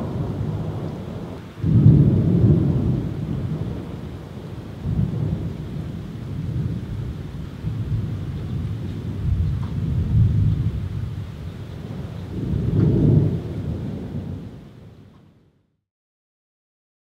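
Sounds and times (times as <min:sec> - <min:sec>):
thunder rumbling: 0:00.0 - 0:15.1
steady rain: 0:00.0 - 0:15.6.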